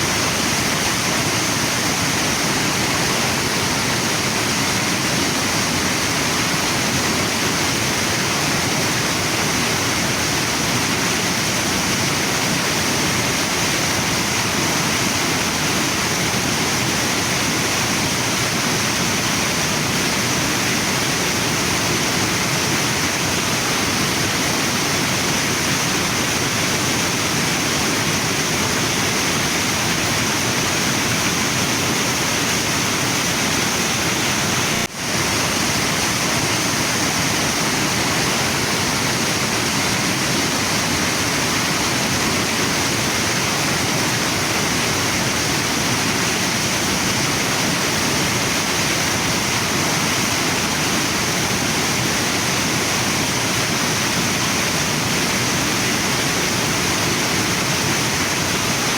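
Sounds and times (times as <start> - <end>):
waterfall and river rushing: 0.0 - 58.9.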